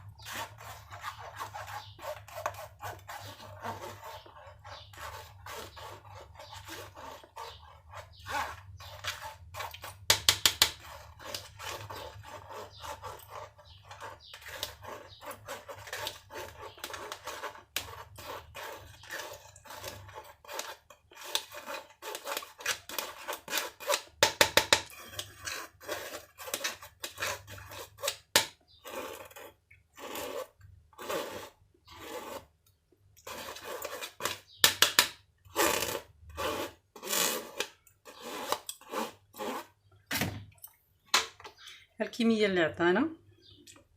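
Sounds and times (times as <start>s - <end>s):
kitchen utensils scraping: 0.0s - 32.5s, 33.2s - 39.9s.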